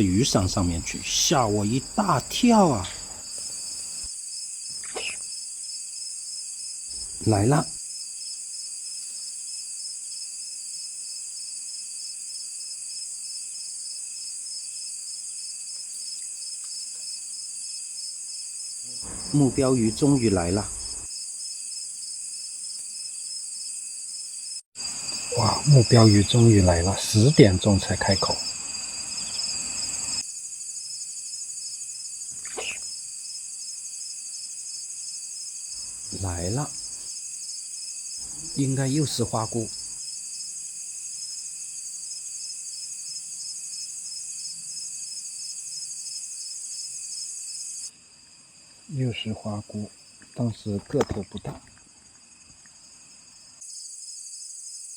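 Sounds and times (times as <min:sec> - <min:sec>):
crickets and insects chirring: 0:00.0 - 0:54.9.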